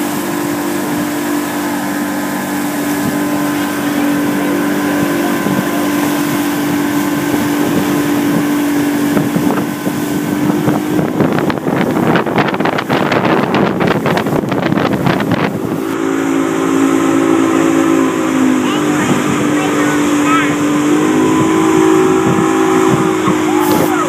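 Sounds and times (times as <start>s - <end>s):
motorboat engine humming: 0.0s - 24.0s
rushing water: 0.0s - 24.0s
wind buffeting microphone: 0.0s - 24.0s.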